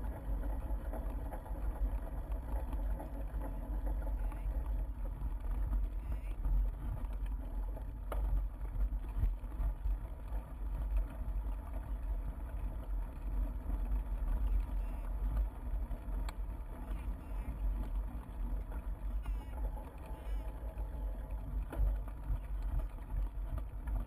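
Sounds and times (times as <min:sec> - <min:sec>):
bike rolling rumble: 0:00.0 - 0:24.0.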